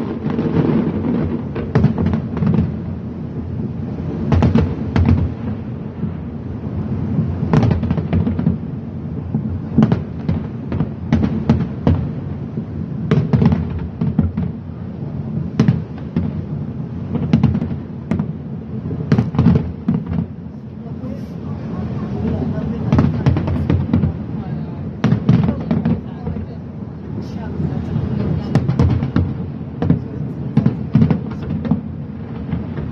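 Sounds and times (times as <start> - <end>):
continuous low rumble: 0.0 - 32.9
fireworks sharp bangs: 0.0 - 32.9.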